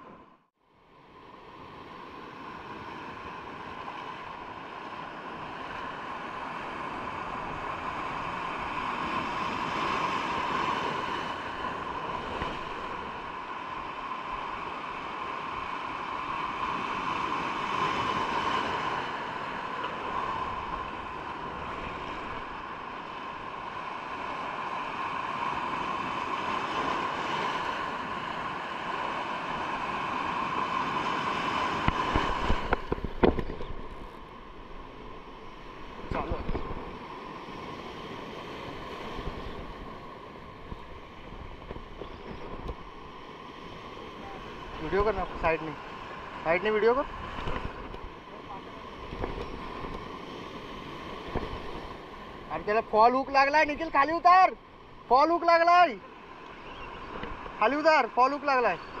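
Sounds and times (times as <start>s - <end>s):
sea waves washing: 0.0s - 59.0s
wind on microphone: 2.4s - 52.4s.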